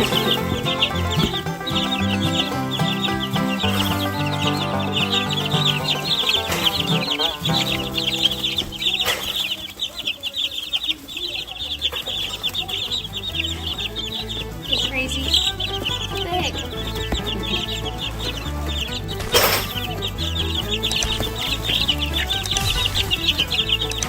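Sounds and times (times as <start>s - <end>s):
background music: 0.0s - 24.0s
chicks peeping: 0.0s - 24.0s.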